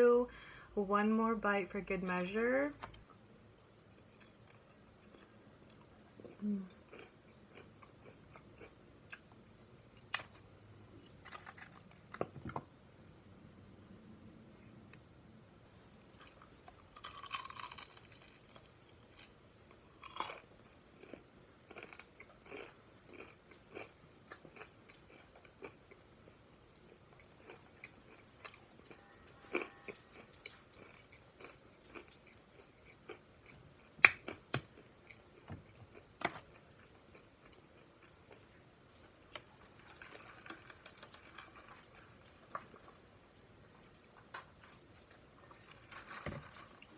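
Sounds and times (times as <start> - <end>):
person chewing food: 3.5 - 12.5, 16.1 - 46.9.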